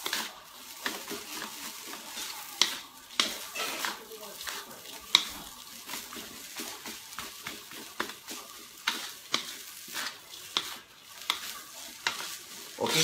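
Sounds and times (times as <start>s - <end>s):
rice sizzling: 0.0s - 13.0s
wooden spatula scraping a wok: 0.0s - 13.0s.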